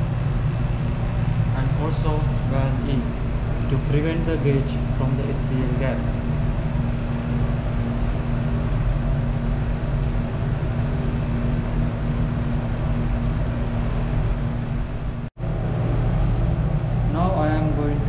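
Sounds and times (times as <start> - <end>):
vacuum pump humming: 0.0 - 18.0.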